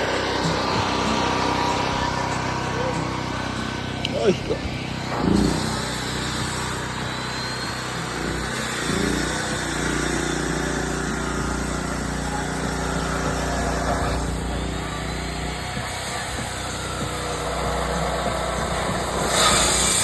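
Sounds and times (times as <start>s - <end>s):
small engine humming: 0.0s - 20.0s.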